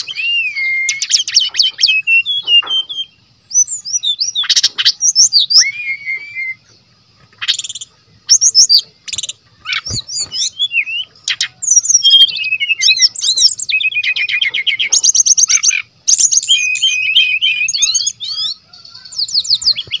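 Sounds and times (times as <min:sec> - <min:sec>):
bird singing varied song: 0:00.0 - 0:20.0.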